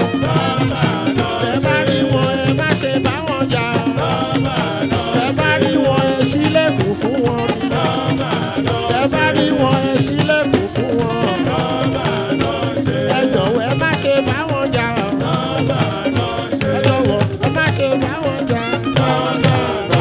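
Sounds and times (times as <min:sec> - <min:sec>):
percussion music with gliding melody: 0:00.0 - 0:20.0.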